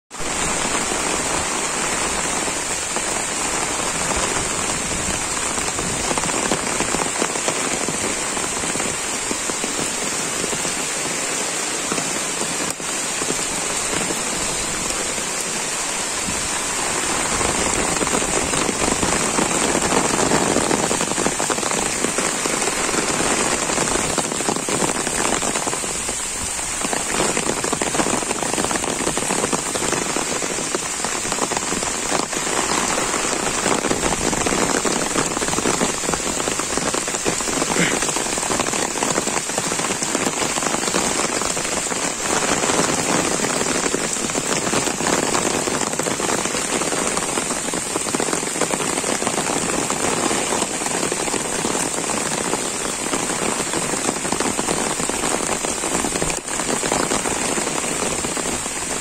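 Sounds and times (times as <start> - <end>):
torrential rain on grass and puddles: 0.0 - 59.0.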